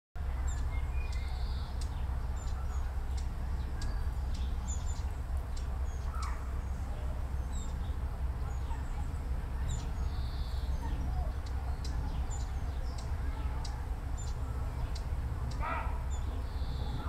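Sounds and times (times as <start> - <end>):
steady low rumble: 0.2 - 17.0
bird chirps and calls: 0.3 - 17.0.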